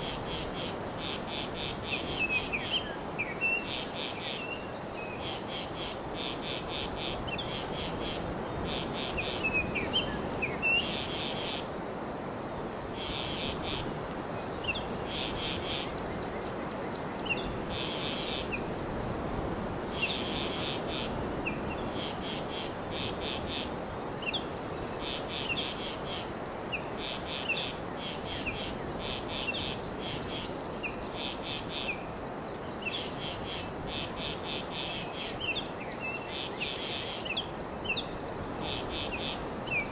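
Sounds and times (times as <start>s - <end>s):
insects pulsing calls: 0.0s - 39.9s.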